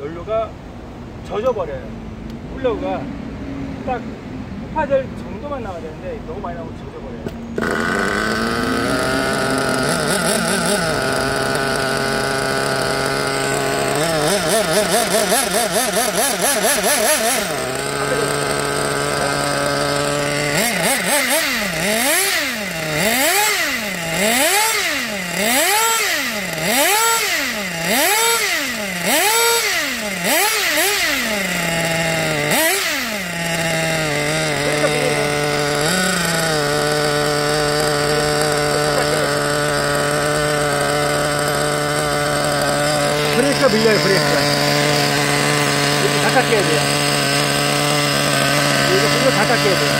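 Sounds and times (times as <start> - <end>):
small nitro engine revving: 7.2 - 49.9.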